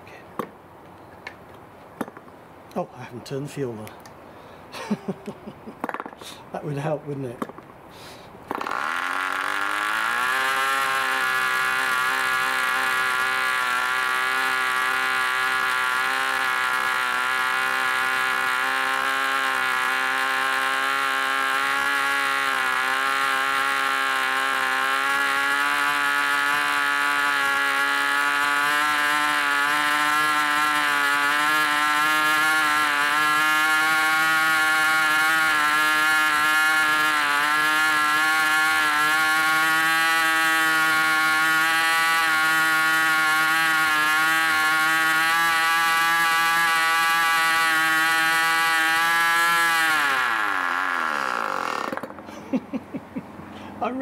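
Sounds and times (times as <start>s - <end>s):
model engine high drone: 8.5s - 52.6s.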